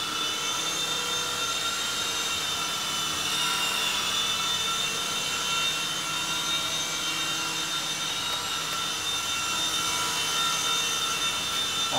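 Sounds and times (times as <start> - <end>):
toy helicopter whine and buzz: 0.0 - 11.9.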